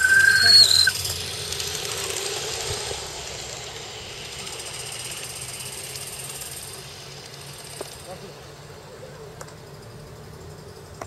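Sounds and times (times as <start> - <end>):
model steam locomotive running: 0.0 - 11.0.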